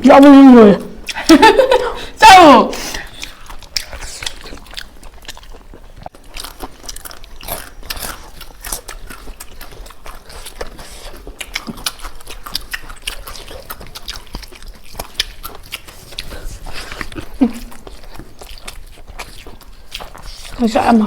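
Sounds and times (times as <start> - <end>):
person chewing chicken: 2.8 - 21.0.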